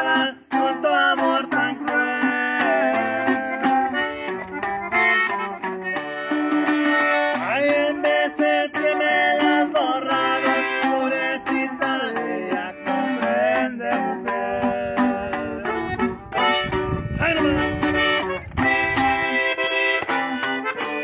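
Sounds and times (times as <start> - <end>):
button accordion melody: 0.0 - 21.0
strummed guitar: 0.0 - 21.0.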